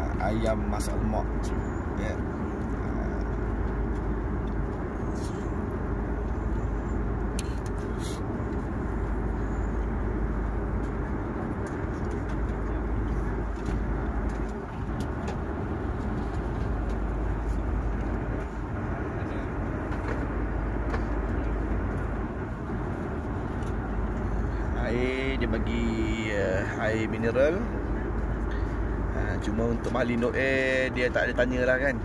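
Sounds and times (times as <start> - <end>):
airliner cabin drone: 0.0 - 32.0.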